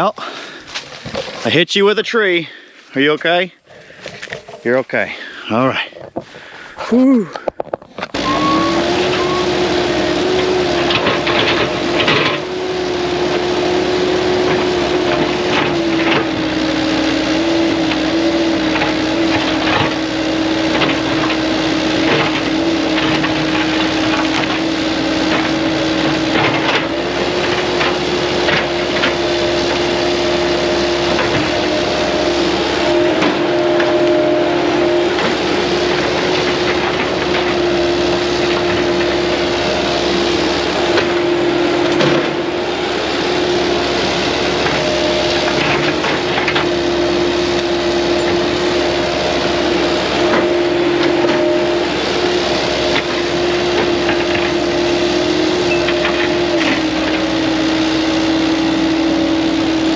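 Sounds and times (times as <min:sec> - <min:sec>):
forestry mulcher whining: 0:00.0 - 0:59.9.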